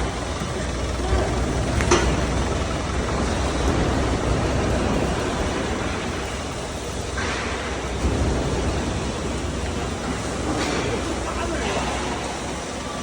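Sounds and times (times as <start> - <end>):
jaw crusher mechanical din: 0.0 - 12.3
low engine hum: 0.0 - 13.0.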